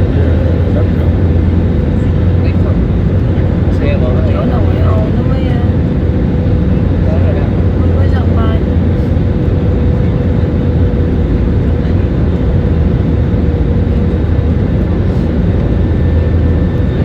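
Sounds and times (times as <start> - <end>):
airliner cabin engine roar: 0.0 - 17.0.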